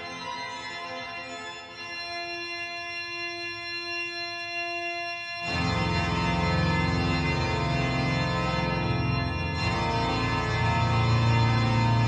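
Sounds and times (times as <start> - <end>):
organ playing sustained chords: 0.0 - 12.0.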